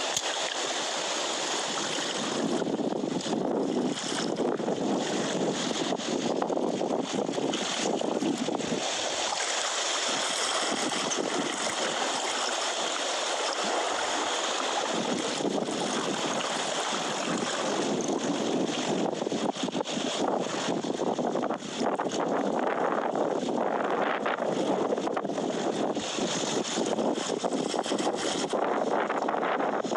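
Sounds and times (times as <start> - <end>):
sea water splashing on rocks: 0.0 - 29.5.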